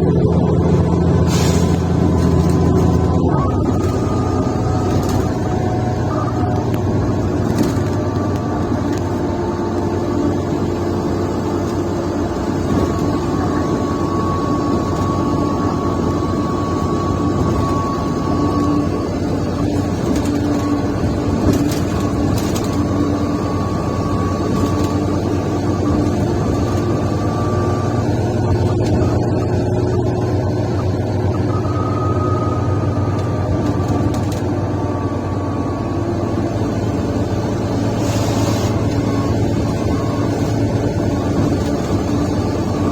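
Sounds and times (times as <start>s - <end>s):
bus diesel engine drone: 0.0s - 42.9s
held whine: 0.0s - 42.9s.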